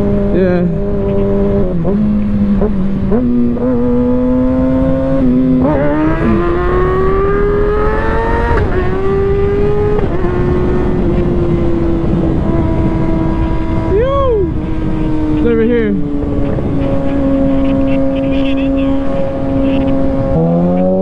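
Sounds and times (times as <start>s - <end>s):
motorcycle engine accelerating: 0.0s - 21.0s
wind noise: 0.0s - 21.0s.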